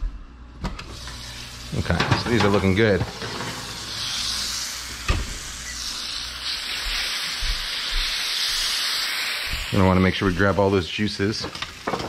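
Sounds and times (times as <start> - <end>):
tomatillos sizzling in a pan: 0.9 - 12.0.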